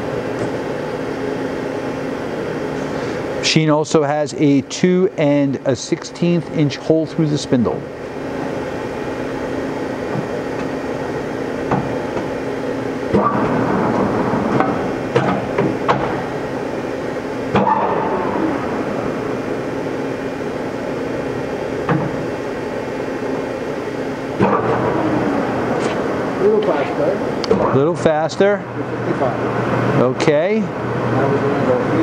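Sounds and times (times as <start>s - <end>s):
lathe running with steady hum: 0.0s - 32.0s.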